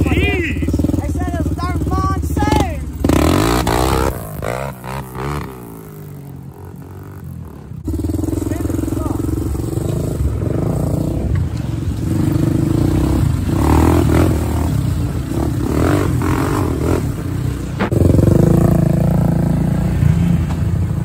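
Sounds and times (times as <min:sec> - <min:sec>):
quad engine running under load: 0:00.0 - 0:21.0.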